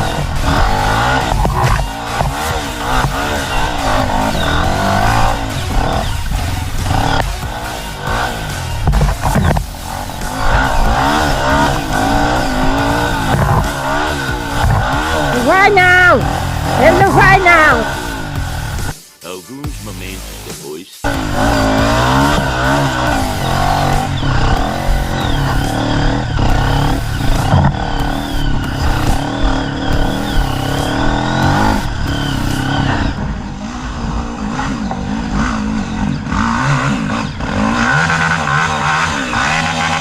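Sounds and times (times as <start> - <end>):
motorcycle engine revving: 0.0 - 19.0, 20.0 - 40.0.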